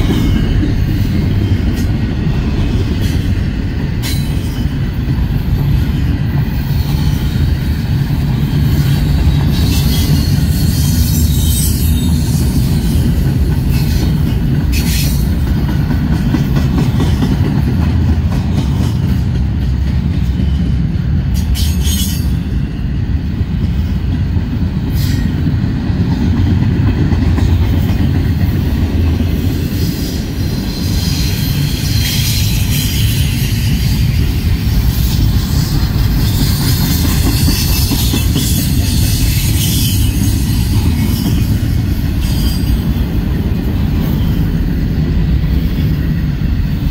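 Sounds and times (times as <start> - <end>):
steel wheels rumbling on rails: 0.0 - 46.9.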